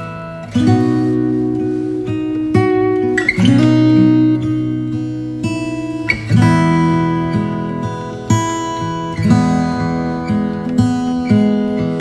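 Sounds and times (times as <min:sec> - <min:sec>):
guitar playing chords: 0:00.0 - 0:12.0.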